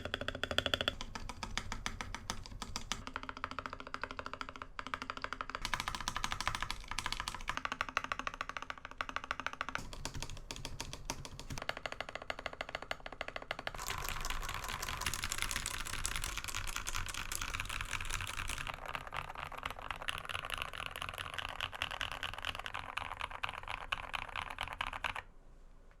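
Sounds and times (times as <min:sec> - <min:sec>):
mechanical keyboard typing: 0:00.0 - 0:25.2.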